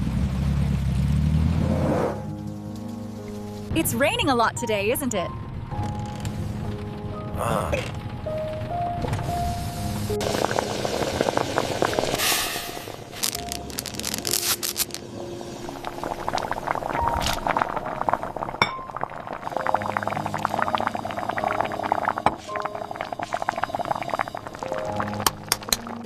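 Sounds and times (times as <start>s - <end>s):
soft background music: 2.1s - 12.3s, 13.1s - 26.0s.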